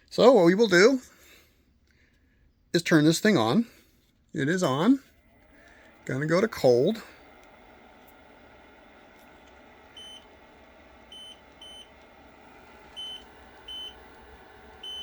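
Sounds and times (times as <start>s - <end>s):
faint steady hum of unit: 0.0s - 15.0s.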